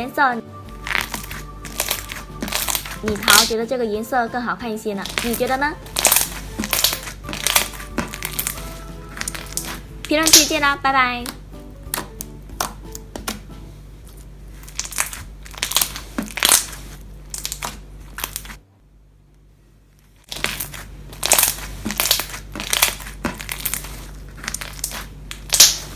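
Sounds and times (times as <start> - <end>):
slime bubbles crackling and popping: 0.7 - 3.6, 5.0 - 13.5, 14.5 - 18.6, 20.2 - 25.9.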